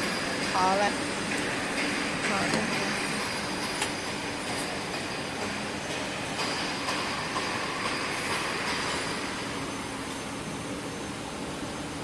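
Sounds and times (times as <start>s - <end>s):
braiding machine running: 0.0s - 12.0s.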